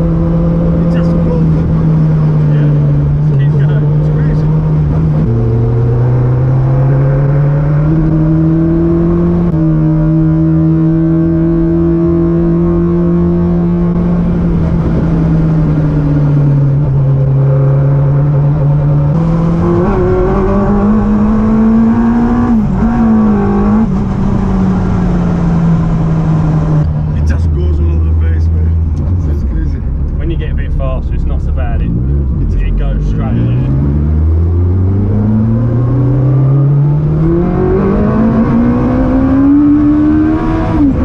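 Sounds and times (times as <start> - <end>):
motorcycle engine revving: 0.0 - 27.4, 31.4 - 41.0.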